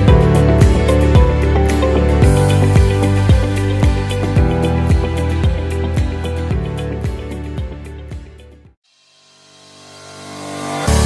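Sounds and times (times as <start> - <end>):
background music: 0.0 - 8.8, 10.4 - 11.0.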